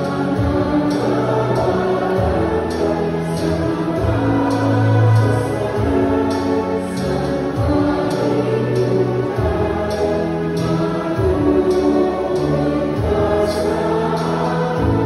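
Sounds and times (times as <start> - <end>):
choir singing a slow hymn: 0.0 - 15.0
steady bass notes: 0.0 - 15.0.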